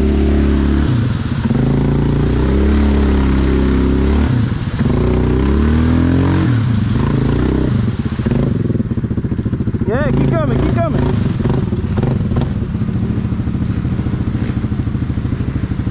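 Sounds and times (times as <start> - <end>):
off-road vehicle engine revving: 0.0 - 15.9.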